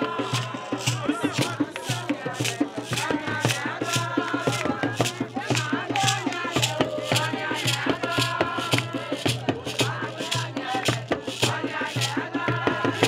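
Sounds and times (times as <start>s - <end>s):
shaker rattling: 0.0s - 13.0s.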